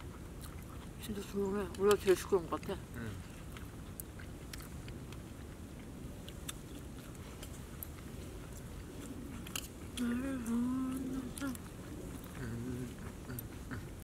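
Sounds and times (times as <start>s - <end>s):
chewing and biting food: 0.0s - 14.0s
low outdoor rumble: 0.0s - 14.0s.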